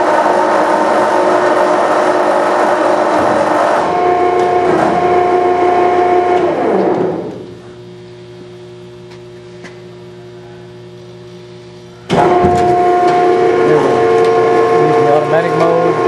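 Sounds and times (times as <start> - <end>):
hydraulic power unit whining: 0.0 - 16.0.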